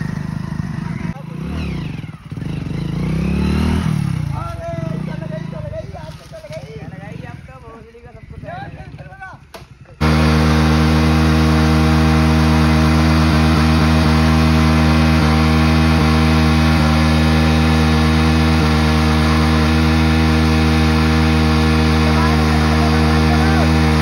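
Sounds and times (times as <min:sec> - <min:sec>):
motorcycle engine droning: 0:00.0 - 0:06.0, 0:09.8 - 0:24.0.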